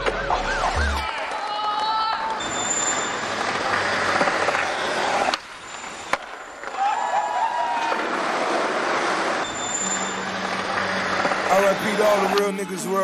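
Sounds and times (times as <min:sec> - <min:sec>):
skateboard wheels rolling on paving: 0:01.0 - 0:12.4.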